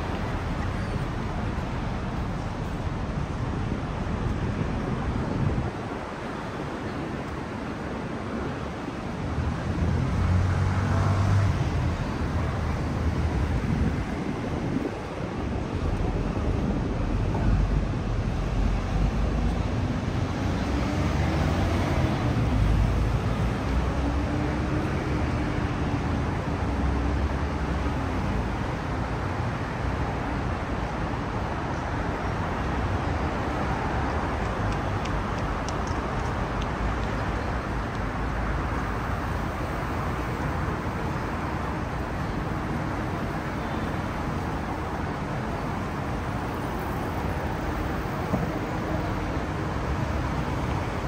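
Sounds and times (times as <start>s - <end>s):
traffic hum and rumble: 0.0s - 51.0s.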